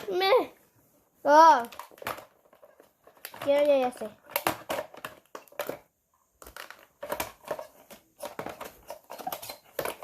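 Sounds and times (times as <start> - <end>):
small objects clicking and knocking: 1.5 - 10.0.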